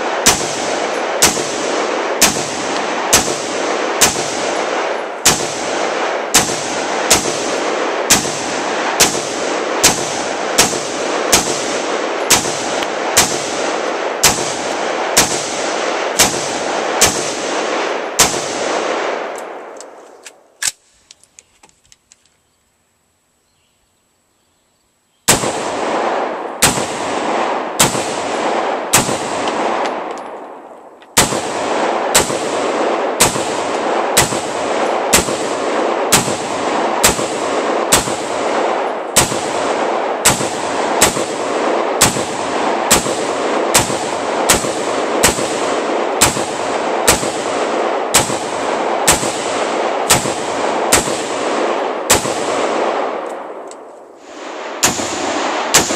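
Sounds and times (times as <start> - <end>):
rifle gunshots: 0.0 - 19.8, 25.3 - 55.9.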